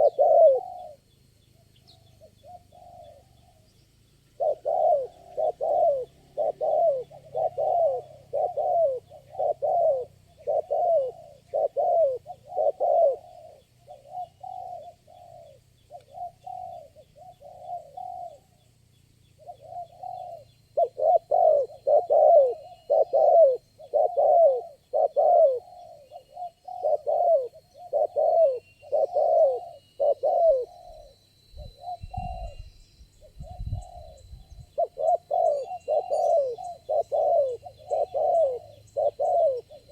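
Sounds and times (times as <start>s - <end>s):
doves cooing: 0.0s - 18.8s, 19.4s - 39.9s.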